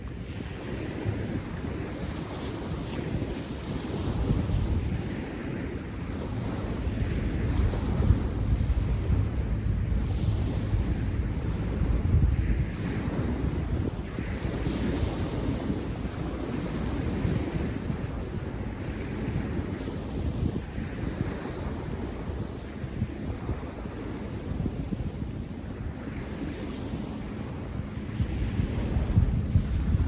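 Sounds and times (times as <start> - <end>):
wind blowing on microphone: 0.0 - 30.0.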